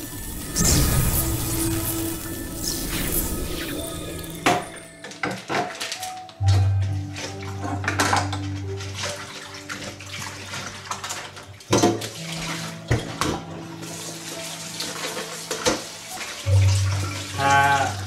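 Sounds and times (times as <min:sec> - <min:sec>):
tap water running: 0:00.0 - 0:18.0.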